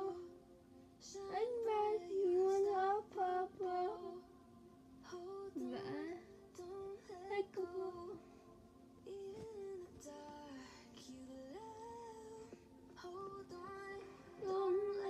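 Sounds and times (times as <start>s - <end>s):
girl singing softly: 0.0s - 15.0s.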